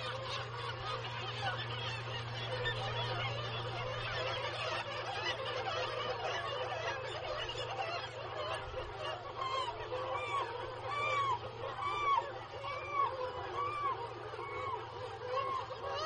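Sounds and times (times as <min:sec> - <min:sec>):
seabird colony calling: 0:00.0 - 0:16.0.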